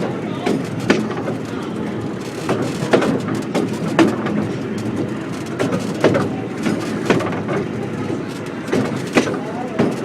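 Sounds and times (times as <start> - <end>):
train rumbling on track: 0.0 - 10.0
wheels knocking on rail joints: 0.4 - 10.0.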